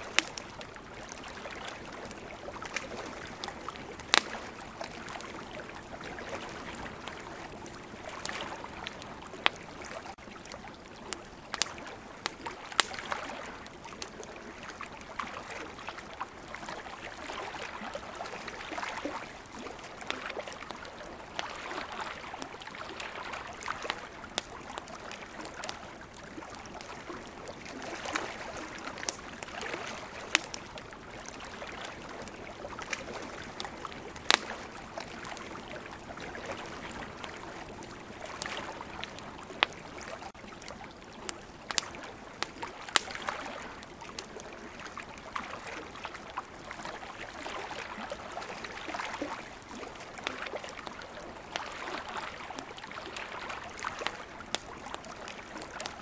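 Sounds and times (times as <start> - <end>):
campfire crackling: 0.0 - 56.0
sea water washing: 0.0 - 56.0.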